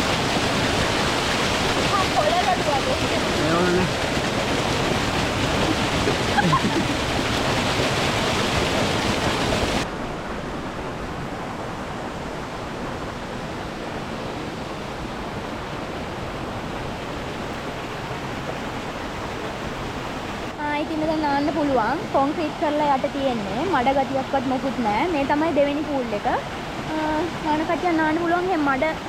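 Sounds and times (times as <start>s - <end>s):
waterfall water rushing: 0.0s - 29.0s.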